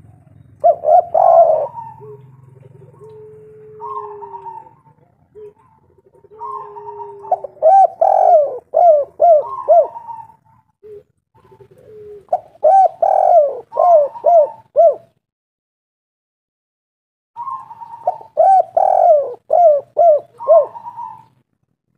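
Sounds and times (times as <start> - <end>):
dove cooing: 0.0 - 15.2, 17.4 - 21.5.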